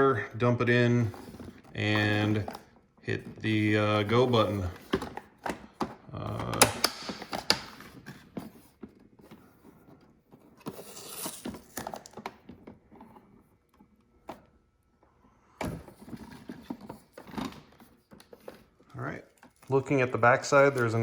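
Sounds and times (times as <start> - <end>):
knocks and rubbing of handling: 0.6 - 21.0.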